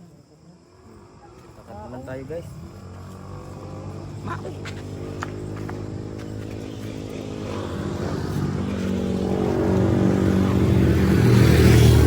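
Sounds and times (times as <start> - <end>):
motorcycle engine running: 0.7 - 12.0.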